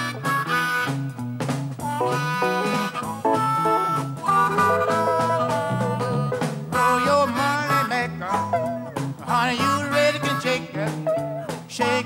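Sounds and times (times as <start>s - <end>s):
electric lead guitar bending notes: 0.0s - 11.7s
drums: 0.0s - 12.0s
electric bass: 0.0s - 12.0s.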